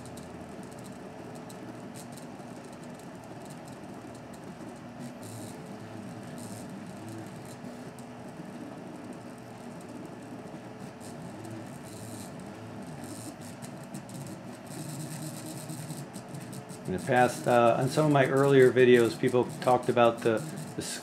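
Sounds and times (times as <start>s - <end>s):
printer stepper motors whining: 0.0s - 21.0s.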